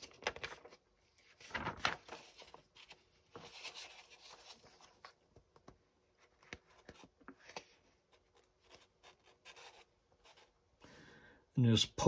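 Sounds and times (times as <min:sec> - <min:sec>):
magazine pages rustling: 0:00.0 - 0:09.8.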